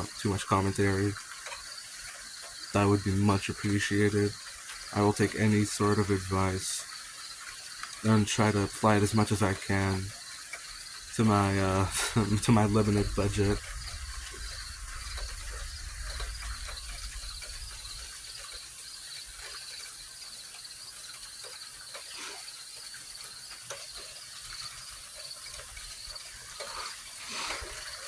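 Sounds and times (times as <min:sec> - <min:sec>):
faint ticks: 0:00.0 - 0:28.0
insects chirping: 0:00.0 - 0:28.0.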